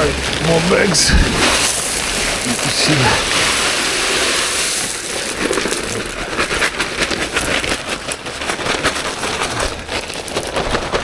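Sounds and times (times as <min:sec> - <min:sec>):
gravel pouring from a bag: 0:00.0 - 0:11.0.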